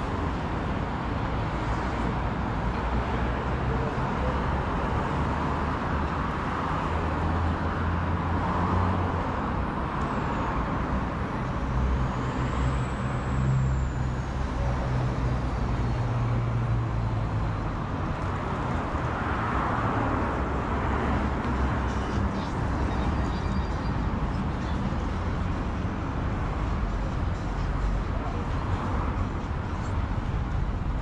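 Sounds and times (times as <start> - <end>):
street traffic: 0.0 - 31.0.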